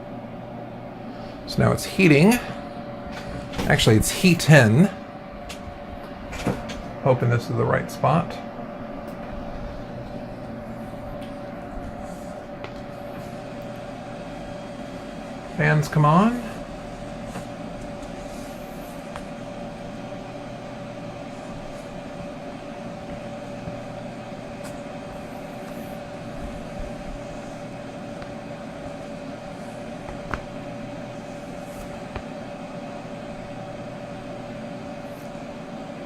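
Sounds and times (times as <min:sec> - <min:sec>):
cooling fans whirring: 0:00.0 - 0:36.0
steady hum tone: 0:00.0 - 0:36.0.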